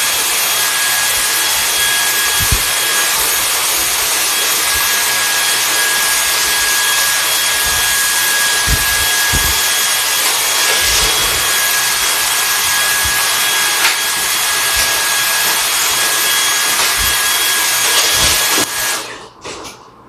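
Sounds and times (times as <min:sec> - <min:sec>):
vacuum cleaner motor whine: 0:00.0 - 0:19.2.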